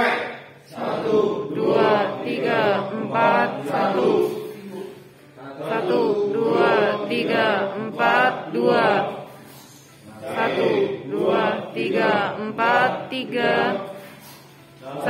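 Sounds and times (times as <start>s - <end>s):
voices chanting a count: 0.0s - 15.0s.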